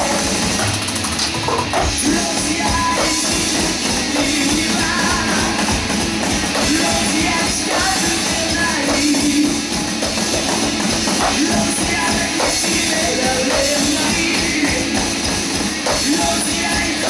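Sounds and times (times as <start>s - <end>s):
electronic drum hits: 0.0s - 17.0s
hard rock music with vocals: 0.0s - 17.0s.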